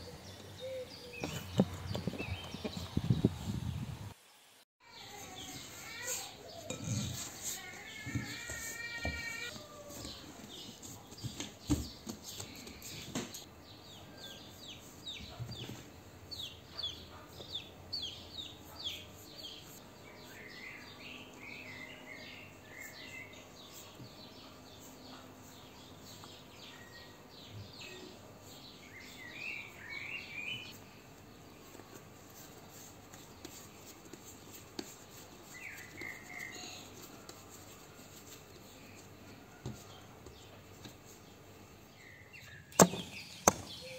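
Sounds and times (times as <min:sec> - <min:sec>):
small birds chirping: 0:00.0 - 0:03.6, 0:04.9 - 0:43.9.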